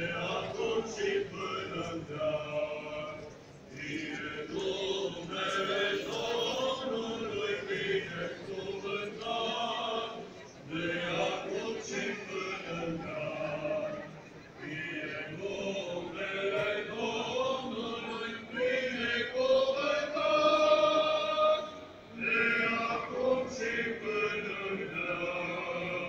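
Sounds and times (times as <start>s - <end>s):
choir chanting a hymn: 0.0s - 26.0s.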